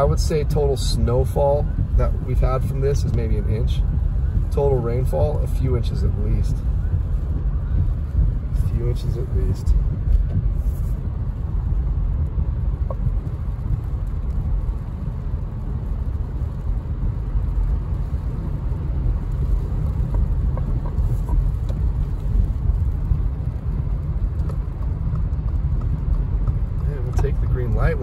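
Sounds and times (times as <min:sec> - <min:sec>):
car driving on wet pavement: 0:00.0 - 0:28.0
rain: 0:00.0 - 0:28.0
windshield wipers running: 0:01.8 - 0:28.0.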